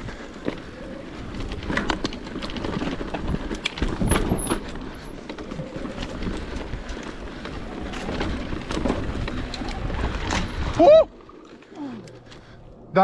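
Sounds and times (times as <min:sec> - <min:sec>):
bike tyres and frame clattering: 0:00.0 - 0:12.6.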